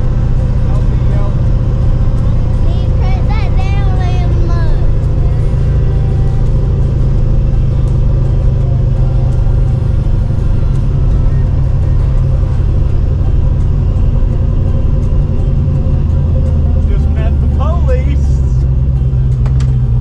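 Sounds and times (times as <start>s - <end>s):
motor vehicle droning: 0.0s - 20.0s.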